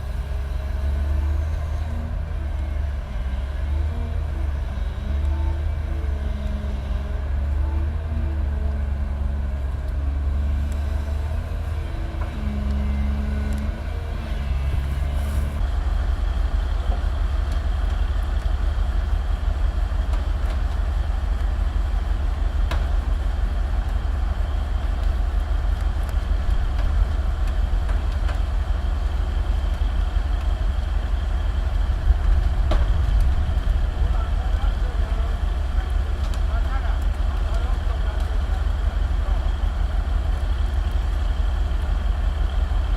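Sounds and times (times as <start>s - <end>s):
heavy diesel engines under load: 0.0s - 42.9s.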